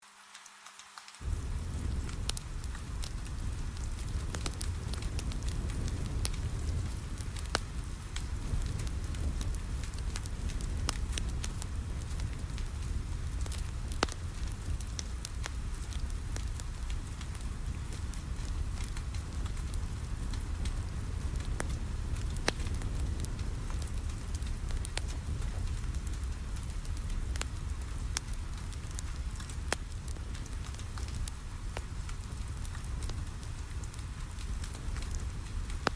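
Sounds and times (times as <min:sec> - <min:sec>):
rain pattering on a window: 0:00.0 - 0:35.9
wood fire crackling and popping: 0:01.0 - 0:35.9.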